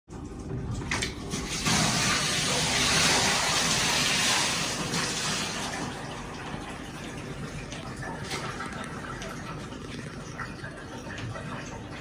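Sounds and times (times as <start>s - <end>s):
water running into bath: 0.1s - 12.0s.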